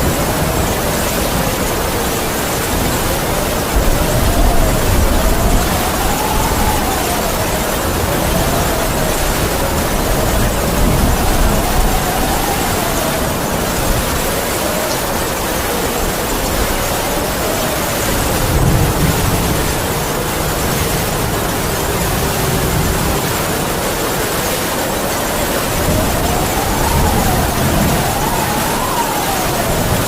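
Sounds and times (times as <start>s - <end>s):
heavy rain: 0.0s - 30.0s
wind howling whistle: 0.0s - 30.0s.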